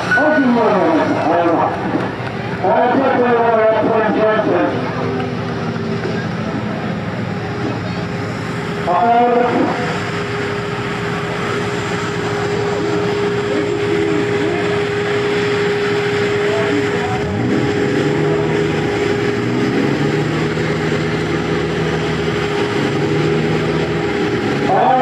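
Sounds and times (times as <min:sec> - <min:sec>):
vehicle engine running and revving: 0:00.0 - 0:25.0.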